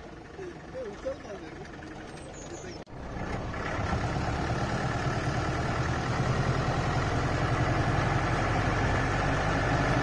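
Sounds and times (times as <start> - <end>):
jeep engine running: 0.0 - 10.0.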